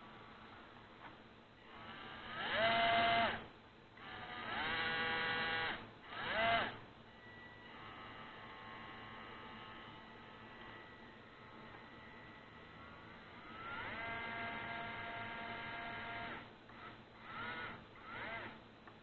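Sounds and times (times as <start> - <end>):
electric motor and gears whining: 1.7 - 3.4, 4.0 - 6.8, 7.6 - 18.6.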